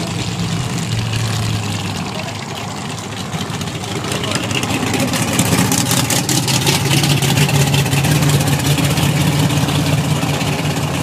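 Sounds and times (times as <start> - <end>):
racing car engine idling loudly: 0.0 - 11.0.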